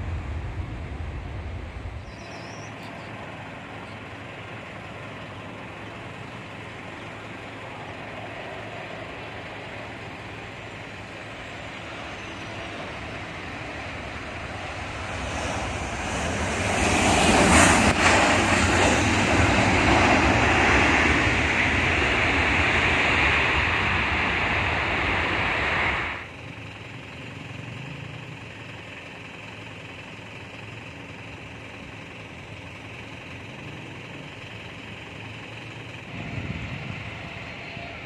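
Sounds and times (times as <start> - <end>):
jet engines roaring: 0.0 - 26.3, 31.9 - 38.0.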